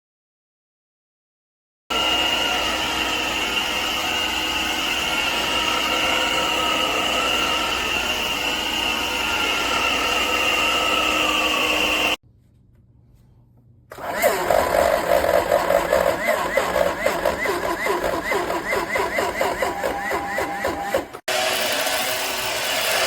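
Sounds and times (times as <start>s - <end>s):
vacuum cleaner motor whining: 1.9s - 12.2s, 13.9s - 23.0s.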